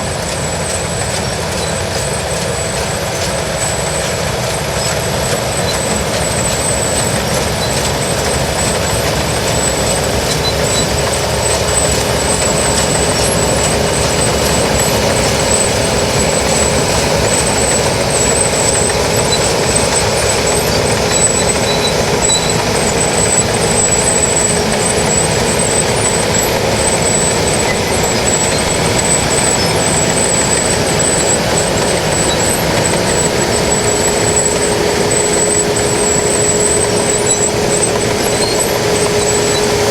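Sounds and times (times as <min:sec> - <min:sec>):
combine harvester engine drone: 0:00.0 - 0:39.9
steady high whine: 0:00.0 - 0:39.9.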